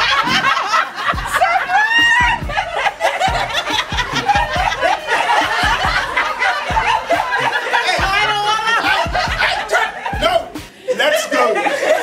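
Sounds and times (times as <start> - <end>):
women laughing: 0.0 - 12.0.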